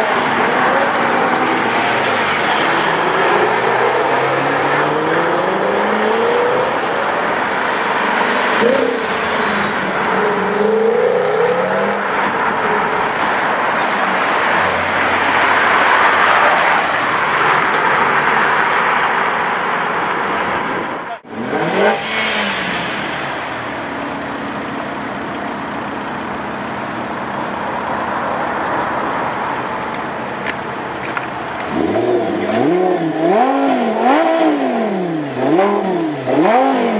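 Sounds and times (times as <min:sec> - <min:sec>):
sports car engines revving: 0:00.0 - 0:20.2, 0:21.1 - 0:36.9
car noise: 0:00.0 - 0:36.9.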